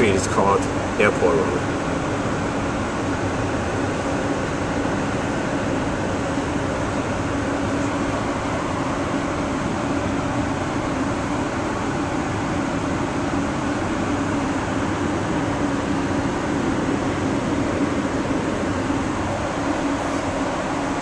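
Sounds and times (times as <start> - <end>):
low constant hum: 0.0 - 21.0
ventilation rushing: 0.0 - 21.0.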